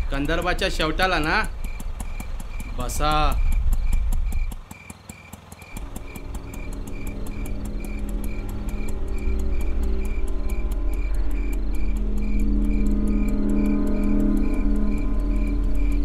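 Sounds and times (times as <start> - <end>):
low droning horror score: 0.0 - 4.6, 5.7 - 16.0
crickets chirping: 0.0 - 16.0.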